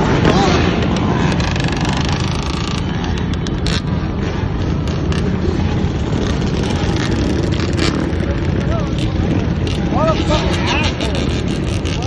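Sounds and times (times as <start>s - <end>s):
dirt bike engines running: 0.0s - 12.0s.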